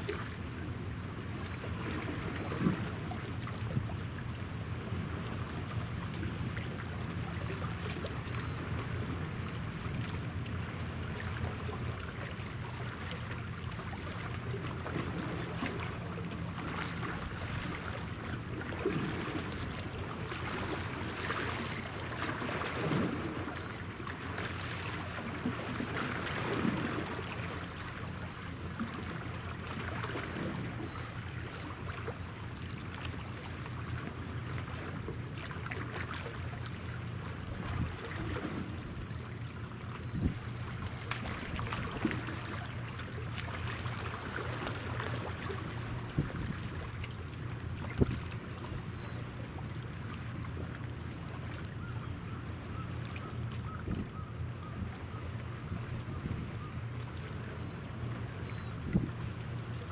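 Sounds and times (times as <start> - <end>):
water lapping at shore: 0.0 - 59.9
distant ship engines humming: 0.1 - 59.9.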